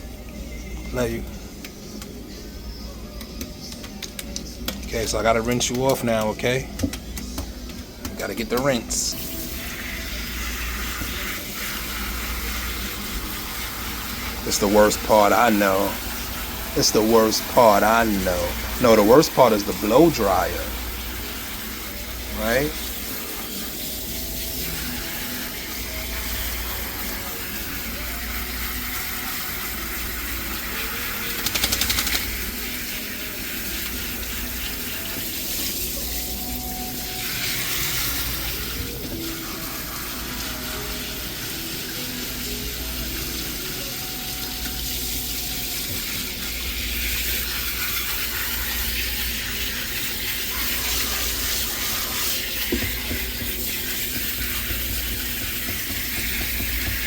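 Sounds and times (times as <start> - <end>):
water running from a tap: 3.8 - 57.0.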